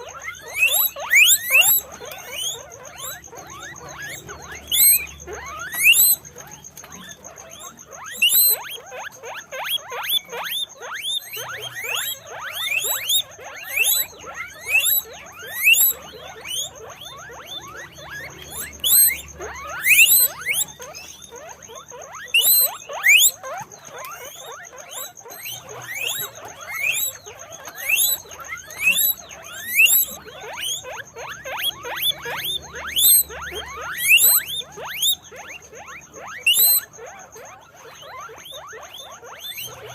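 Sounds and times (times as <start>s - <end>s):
guinea pigs squealing: 0.0s - 39.9s.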